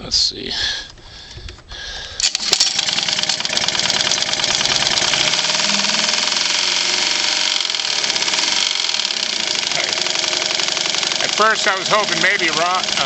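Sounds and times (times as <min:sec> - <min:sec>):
outboard motor knocking: 0:02.5 - 0:13.0.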